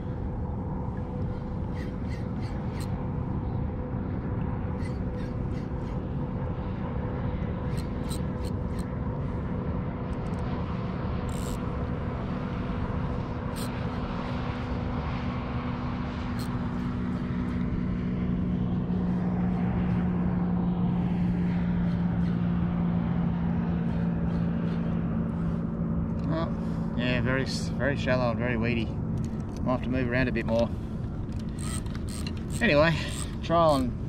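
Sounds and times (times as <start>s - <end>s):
engine drone: 0.0s - 34.0s.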